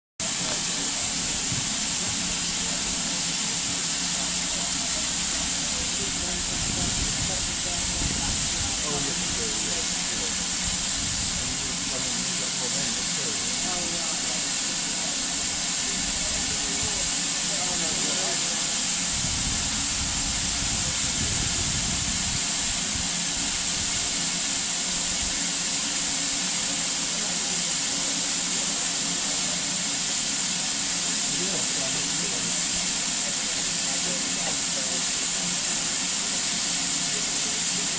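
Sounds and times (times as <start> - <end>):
steam hissing: 0.2 - 37.9.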